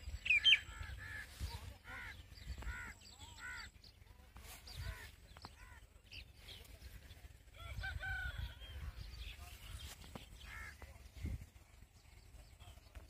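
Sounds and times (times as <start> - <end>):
bird calls: 0.0 - 13.0
low rumble: 0.0 - 13.0.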